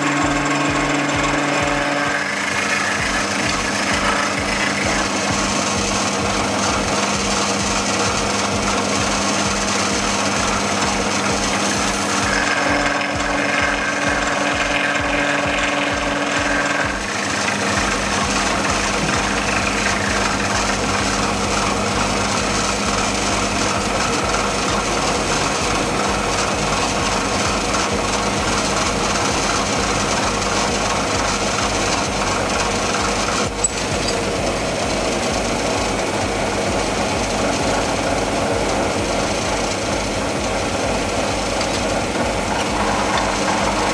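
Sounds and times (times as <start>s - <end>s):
high-pitched machine whine: 0.0s - 43.9s
milling machine motor hum: 0.0s - 43.9s.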